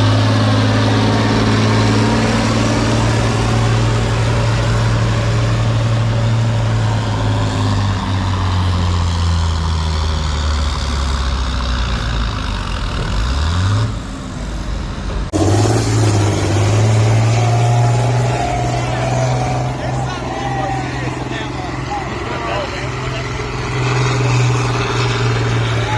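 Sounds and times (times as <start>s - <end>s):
diesel tractor engine under load: 0.0s - 25.9s.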